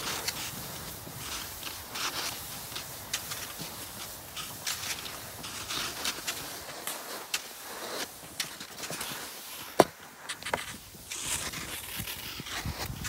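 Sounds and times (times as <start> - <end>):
ski poles clicking: 0.0 - 13.0
skis swishing over snow: 0.0 - 13.0.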